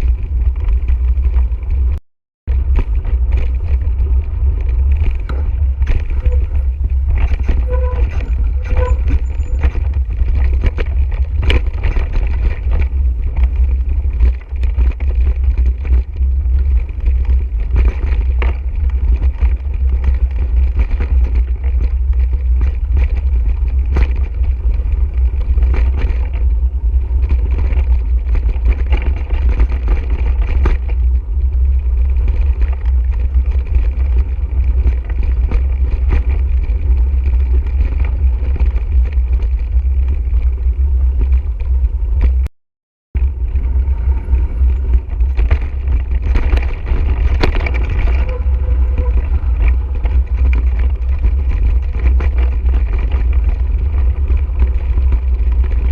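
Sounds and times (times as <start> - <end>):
tyres on dirt trail: 0.0 - 42.5, 43.2 - 55.9
wind rumble on microphone: 0.0 - 42.5, 43.1 - 55.9.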